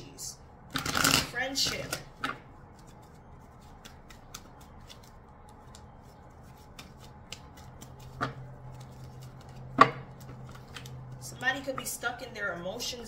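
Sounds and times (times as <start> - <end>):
cards being shuffled: 0.8 - 11.3.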